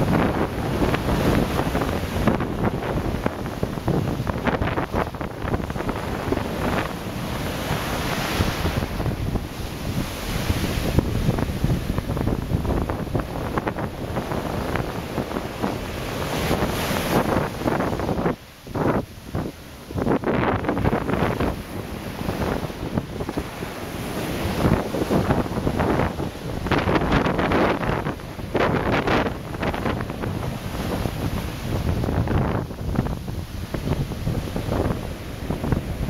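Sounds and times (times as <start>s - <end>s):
ocean surf breaking: 0.0s - 36.0s
wind buffeting microphone: 0.0s - 36.0s.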